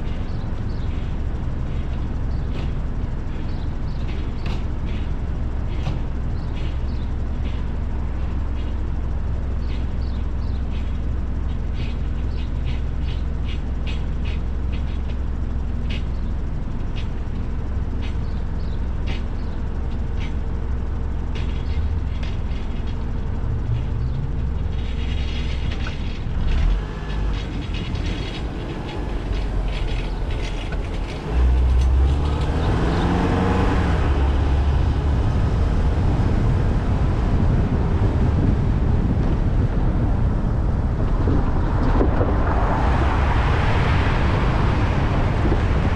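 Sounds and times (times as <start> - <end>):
rumble of traffic: 0.0 - 45.9.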